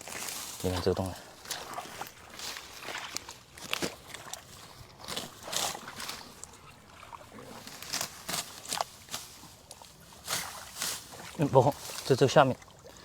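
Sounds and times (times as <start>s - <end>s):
splashes and squelches in mud: 0.0s - 13.0s.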